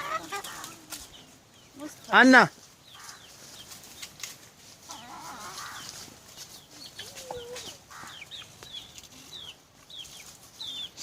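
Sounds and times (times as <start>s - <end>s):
chickens clucking: 0.0s - 11.0s
chickens peeping: 0.0s - 11.0s.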